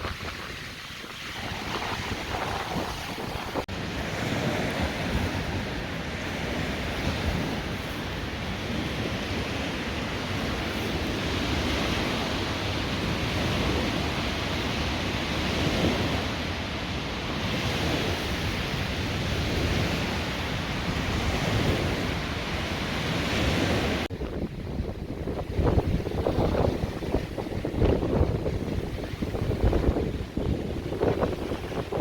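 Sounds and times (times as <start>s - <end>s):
wind buffeting microphone: 0.0s - 16.6s, 17.2s - 32.0s.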